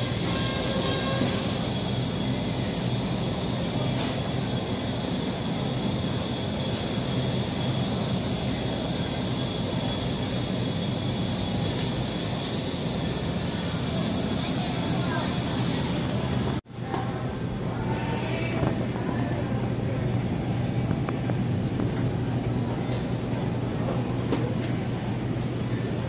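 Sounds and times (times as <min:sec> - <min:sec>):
supermarket room roar: 0:00.0 - 0:26.0.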